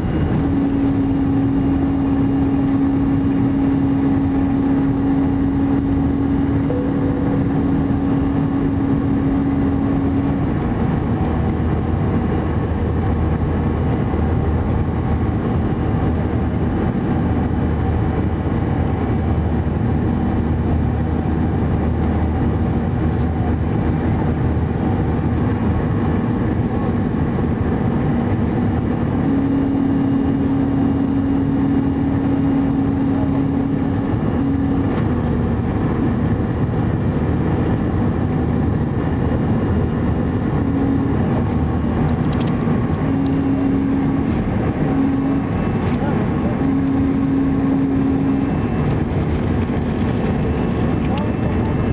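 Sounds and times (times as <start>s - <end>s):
jet engine cabin rush: 0.0s - 51.9s
steady droning tone: 0.0s - 51.9s.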